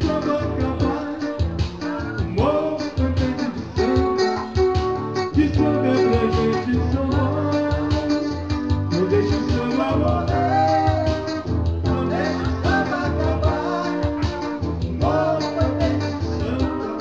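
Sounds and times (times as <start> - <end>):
guitar over a steady beat: 0.0 - 17.0.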